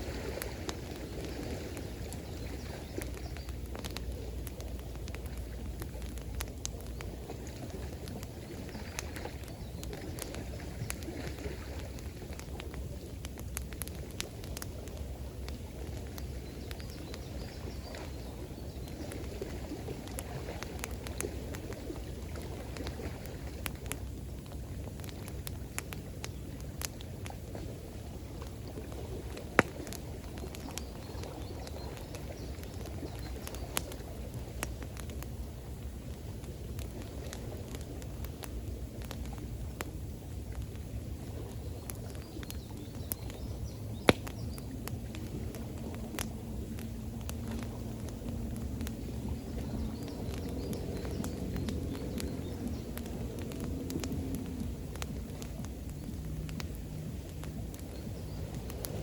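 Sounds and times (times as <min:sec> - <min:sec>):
campfire crackling and popping: 0:00.0 - 0:59.0
flowing water: 0:00.0 - 0:59.0.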